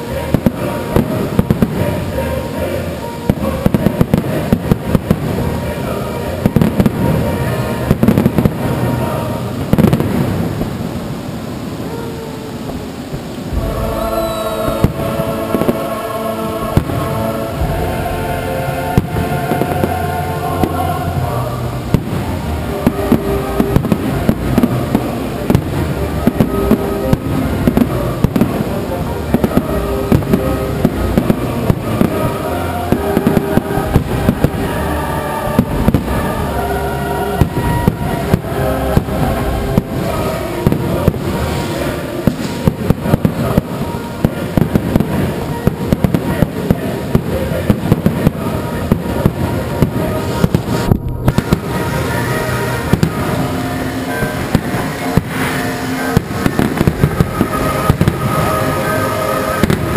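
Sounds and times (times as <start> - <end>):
fireworks bursting and crackling: 0.0 - 59.9
music playing: 0.0 - 59.9.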